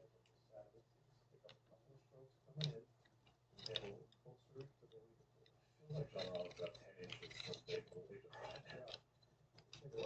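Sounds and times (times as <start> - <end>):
faint clicks and knocks: 1.3 - 10.0.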